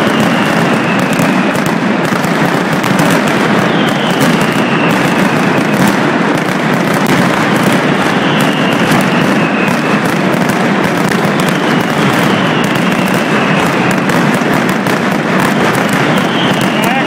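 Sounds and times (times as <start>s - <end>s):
firecracker barrage: 0.0s - 17.0s.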